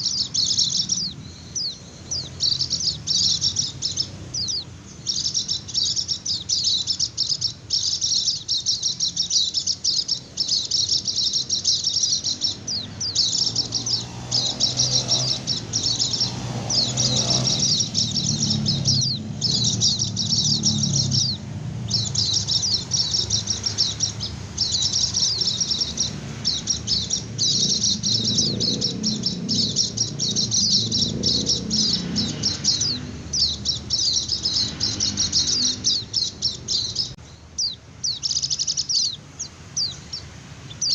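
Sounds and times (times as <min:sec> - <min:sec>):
bird twittering trills: 0:00.0 - 0:40.9.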